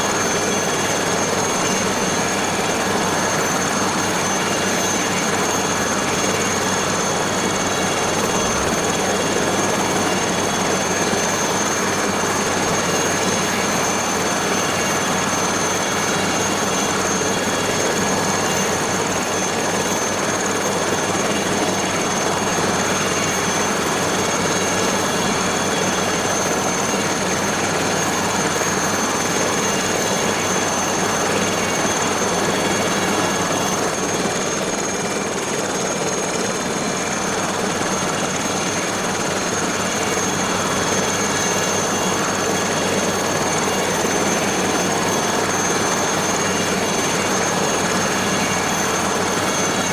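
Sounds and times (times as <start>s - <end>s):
helicopter engine and rotor: 0.0s - 49.9s
high engine whine: 0.0s - 49.9s.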